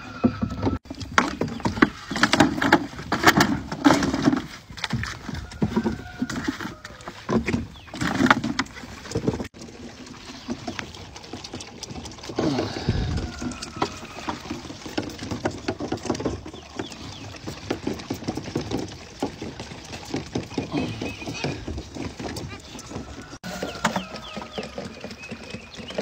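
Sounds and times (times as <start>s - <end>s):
goat kids sucking and slurping: 0.0s - 26.0s.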